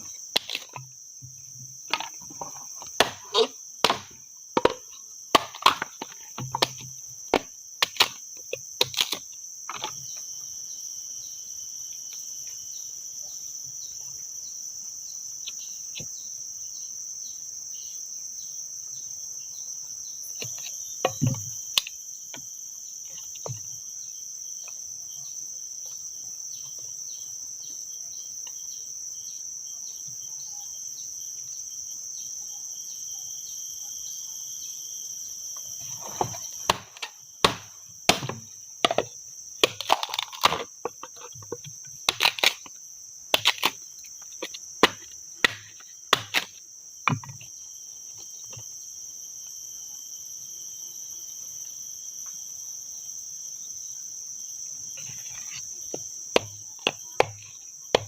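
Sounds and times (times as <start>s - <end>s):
insects chirring drone: 0.0s - 58.0s.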